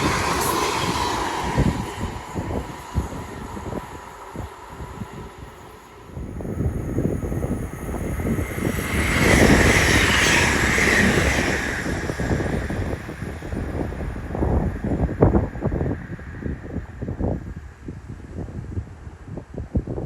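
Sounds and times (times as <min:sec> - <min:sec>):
electric train passing: 0:00.0 - 0:18.3.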